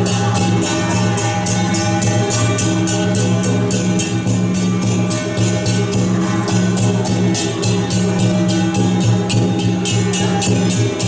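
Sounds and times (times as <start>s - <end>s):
cymbal-like crashes: 0.0s - 11.0s
music with metallic percussion: 0.0s - 11.0s
sustained steady tones: 0.0s - 11.0s.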